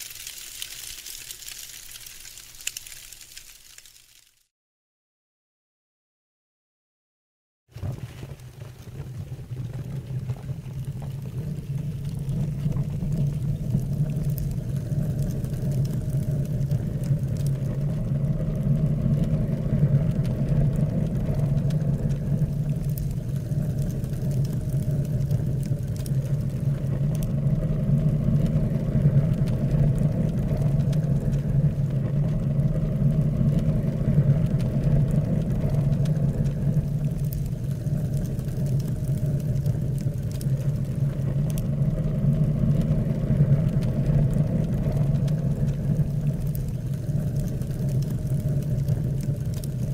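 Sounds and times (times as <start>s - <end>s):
fire roaring: 0.0s - 4.4s, 7.7s - 49.9s
faint fire crackles: 0.0s - 4.5s, 7.7s - 49.9s.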